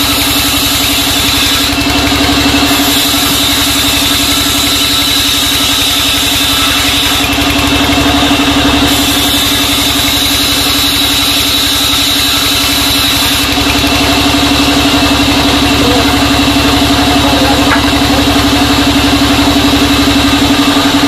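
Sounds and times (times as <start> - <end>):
band saw running: 0.0 - 21.0.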